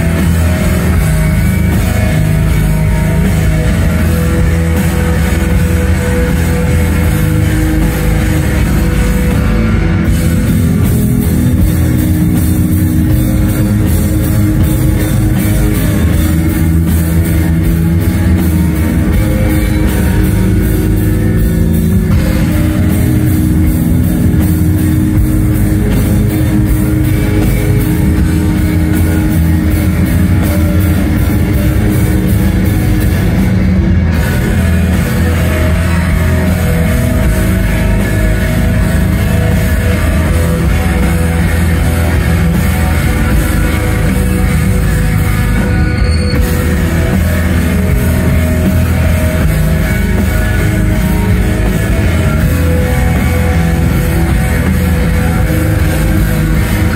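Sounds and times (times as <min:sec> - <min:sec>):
rock band playing live: 0:00.0 - 0:56.9.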